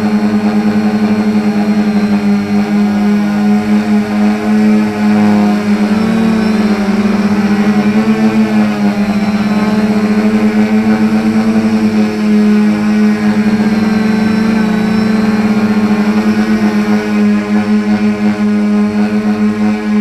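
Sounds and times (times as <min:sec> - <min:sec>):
quadcopter propellers humming: 0:00.0 - 0:20.0.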